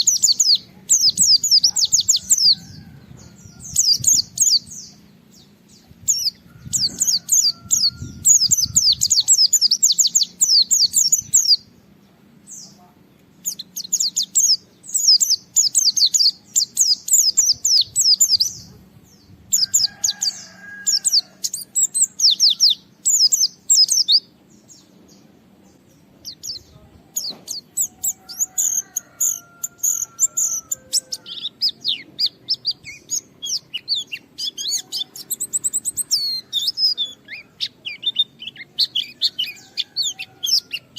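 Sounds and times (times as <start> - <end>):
bird high chittering song: 0.0 - 11.8, 13.4 - 40.9.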